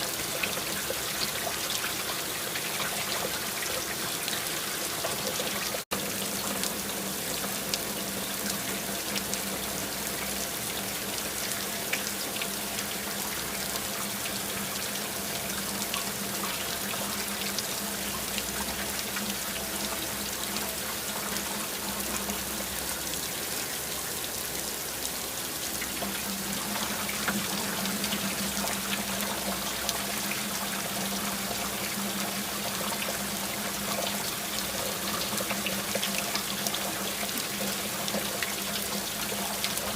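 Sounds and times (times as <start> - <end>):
steady rain falling: 0.0 - 39.9
trickling water: 0.0 - 39.9.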